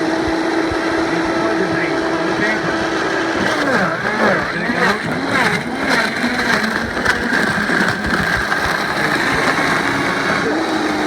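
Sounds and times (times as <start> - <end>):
blender motor running: 0.0 - 11.0.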